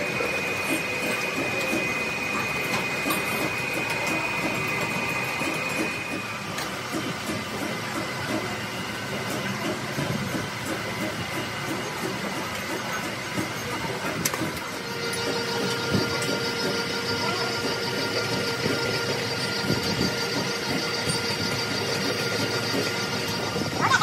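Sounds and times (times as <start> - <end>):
grinding machine whine and clatter: 0.0 - 24.0.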